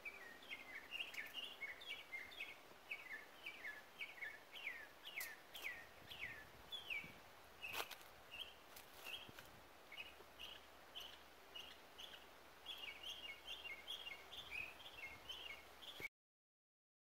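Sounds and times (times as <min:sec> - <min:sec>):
small songbird chirping: 0:00.0 - 0:16.1.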